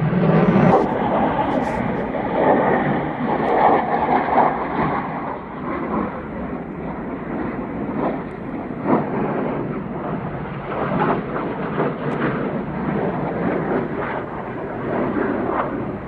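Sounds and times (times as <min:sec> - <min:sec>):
low-flying aircraft rumble: 0:00.0 - 0:16.0.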